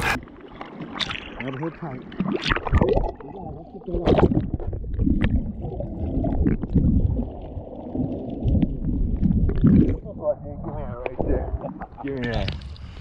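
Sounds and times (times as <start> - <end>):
muffled underwater gurgling: 0.0 - 12.6
water and bubbles rushing: 0.0 - 13.0.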